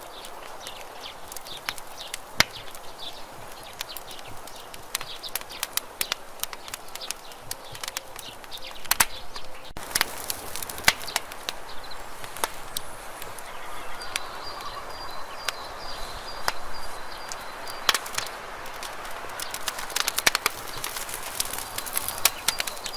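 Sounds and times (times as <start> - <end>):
campfire crackling and popping: 0.0 - 22.9
soft steady hiss: 0.0 - 22.9.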